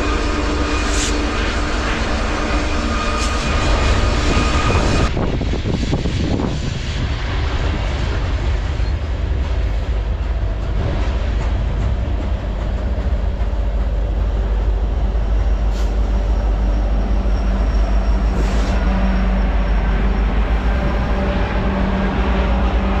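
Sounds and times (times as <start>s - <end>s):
constant hum: 0.0s - 23.0s
train rumbling past: 0.0s - 23.0s.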